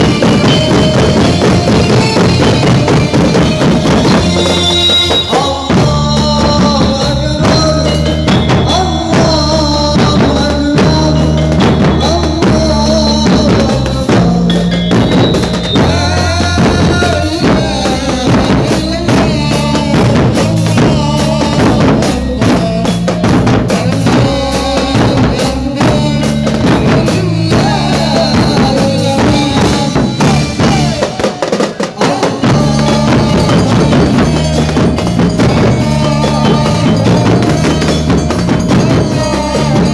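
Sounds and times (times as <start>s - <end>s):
loud music with drum beat: 0.0s - 39.9s.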